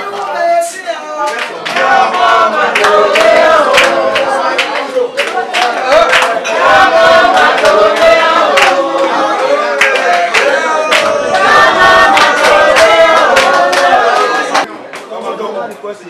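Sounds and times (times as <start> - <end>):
group singing a chant: 1.2 - 14.7
hands clapping: 1.2 - 15.1.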